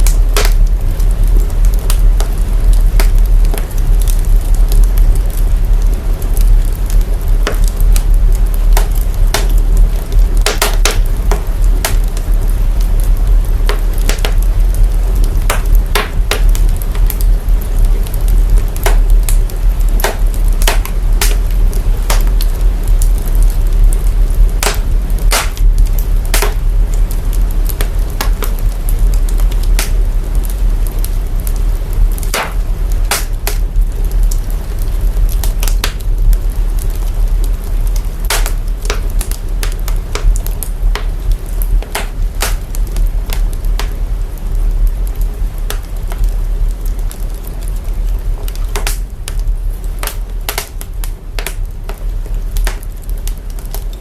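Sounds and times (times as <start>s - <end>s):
fire crackling and popping: 0.0s - 54.0s
low rumble: 0.0s - 54.0s.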